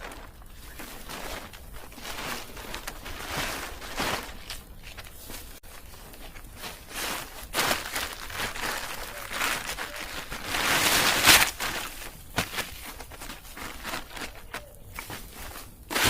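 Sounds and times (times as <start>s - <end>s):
rustling and crunching handling: 0.0s - 16.0s.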